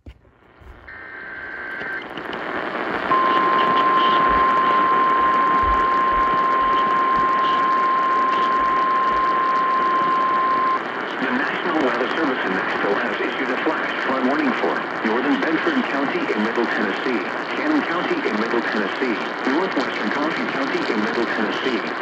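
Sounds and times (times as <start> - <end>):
radio static hiss: 0.4 - 22.0.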